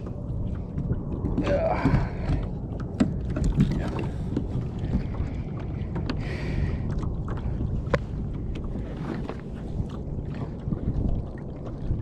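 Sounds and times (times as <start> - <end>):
water lapping against kayak hull: 0.0 - 12.0
wind rumbling on microphone: 0.0 - 12.0.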